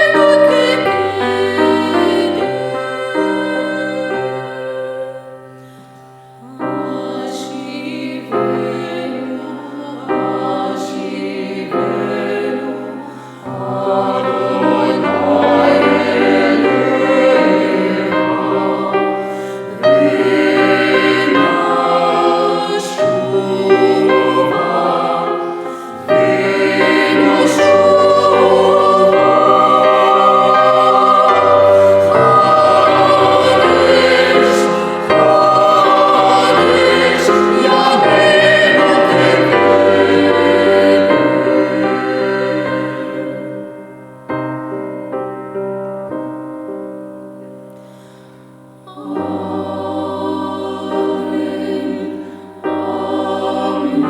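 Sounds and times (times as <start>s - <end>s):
vocal ensemble singing in harmony: 0.0s - 44.9s, 47.7s - 54.0s.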